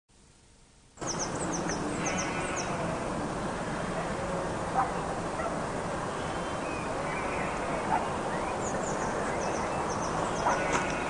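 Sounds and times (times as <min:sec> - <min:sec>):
small birds chirping: 0:01.0 - 0:11.0.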